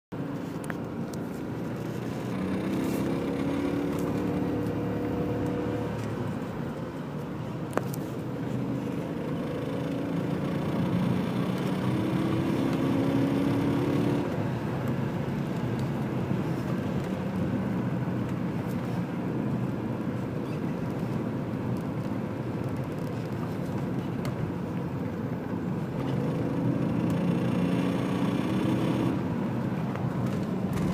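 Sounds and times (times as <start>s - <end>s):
car engine and road noise drone: 0.1s - 30.9s.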